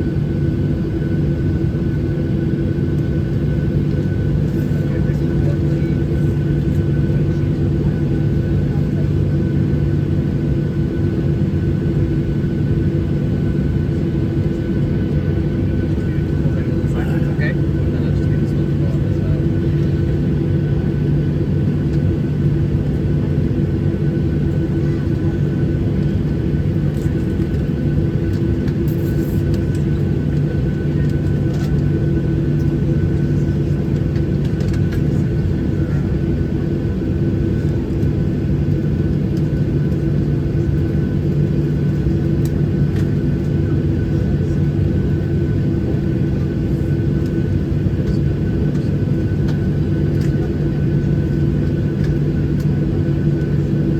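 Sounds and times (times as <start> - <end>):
airliner cabin drone: 0.0 - 53.9.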